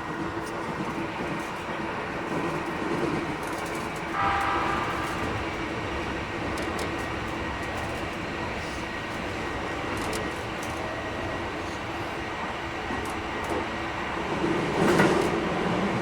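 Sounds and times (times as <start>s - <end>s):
train wheels and motors rumbling: 0.0s - 16.0s.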